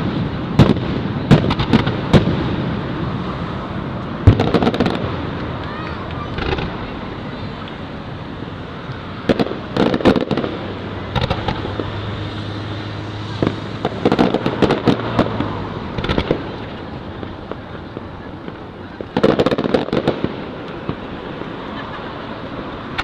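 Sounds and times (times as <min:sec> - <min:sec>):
fireworks crackling bangs: 0:00.0 - 0:23.0.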